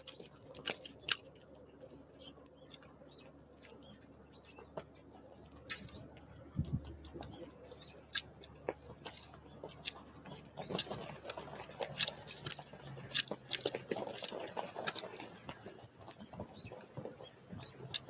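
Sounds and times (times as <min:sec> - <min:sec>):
birds pecking and cracking seeds: 0:00.0 - 0:18.0.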